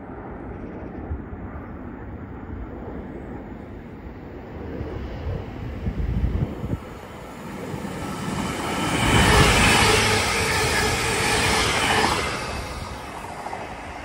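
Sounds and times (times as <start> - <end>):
passenger train passing: 0.0 - 14.0.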